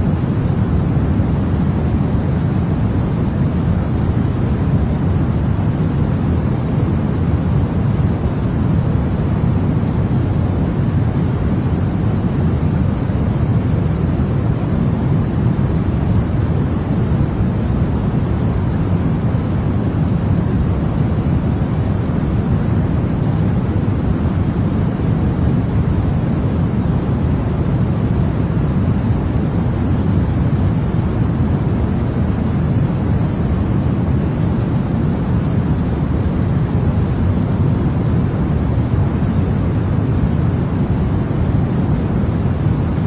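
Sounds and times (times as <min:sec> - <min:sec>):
steady white noise: 0:00.0 - 0:43.0.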